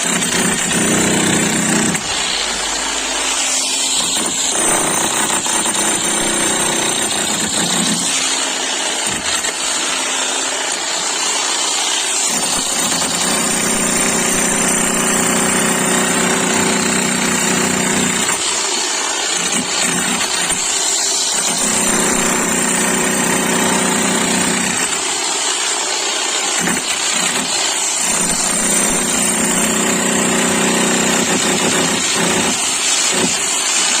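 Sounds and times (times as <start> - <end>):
electric demolition hammer: 0.0 - 34.0.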